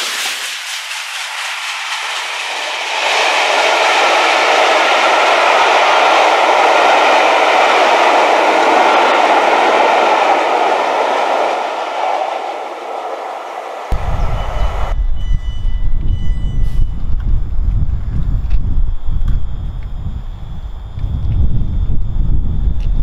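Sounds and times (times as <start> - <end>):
train wheels rushing on rails: 0.0 - 19.6.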